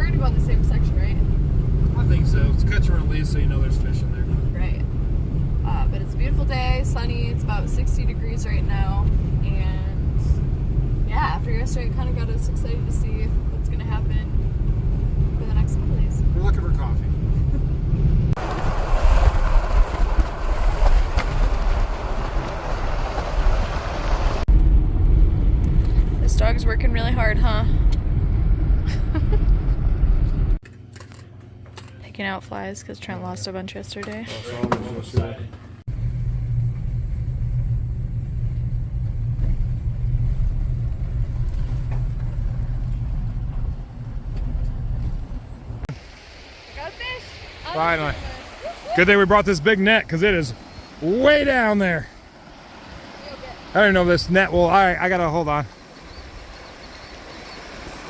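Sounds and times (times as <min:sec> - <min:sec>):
vehicle rumble and road noise: 0:00.0 - 0:58.0.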